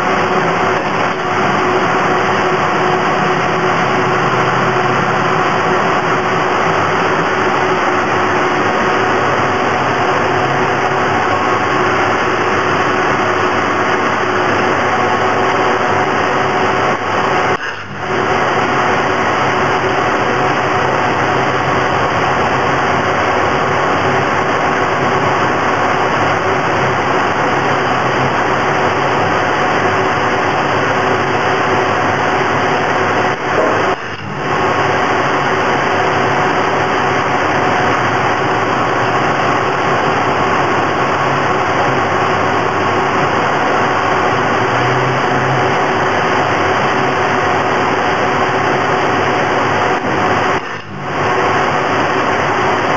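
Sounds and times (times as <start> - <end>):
welding machine noise: 0.0 - 52.9.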